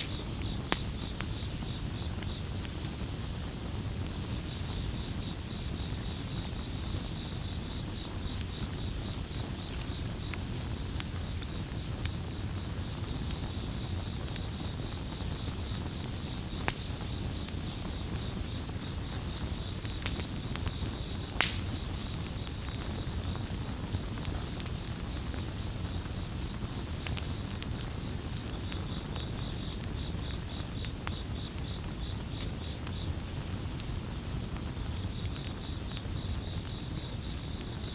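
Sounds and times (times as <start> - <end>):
campfire crackling and popping: 0.0 - 37.9
cricket chirping: 0.0 - 37.9.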